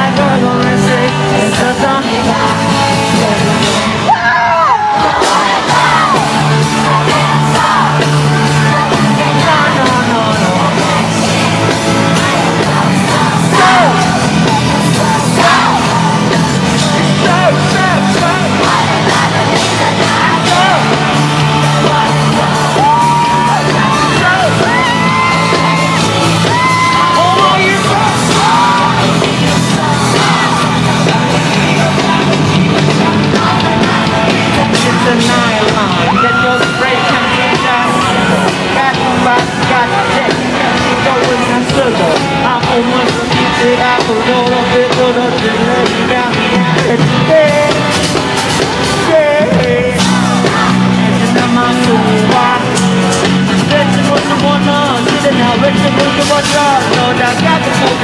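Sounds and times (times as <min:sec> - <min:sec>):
amplified pop concert music: 0:00.0 - 0:58.0
crowd screaming and singing along: 0:00.0 - 0:58.0.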